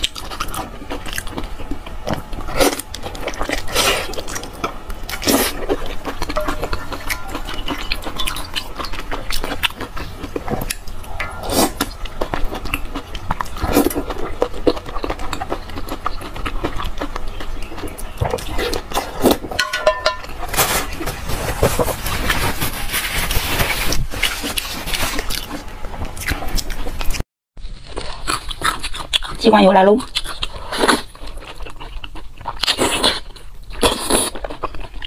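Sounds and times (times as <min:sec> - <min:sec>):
wet chewing and slurping: 0:00.0 - 0:19.6, 0:20.2 - 0:35.0.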